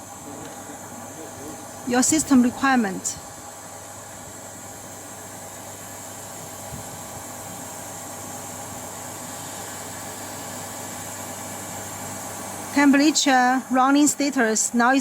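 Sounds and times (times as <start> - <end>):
water treatment machine humming: 0.0 - 15.0.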